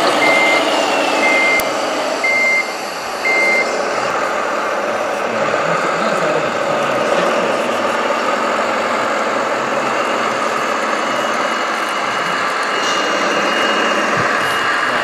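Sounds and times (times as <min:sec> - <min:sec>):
model bulldozer running: 0:00.0 - 0:15.0.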